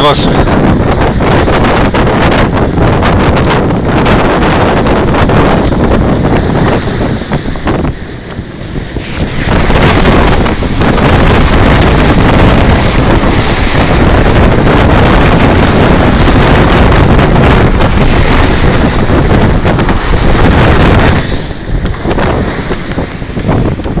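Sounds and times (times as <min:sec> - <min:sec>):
bow wave rushing and splashing: 0:00.0 - 0:24.0
wind buffeting the microphone: 0:00.0 - 0:24.0.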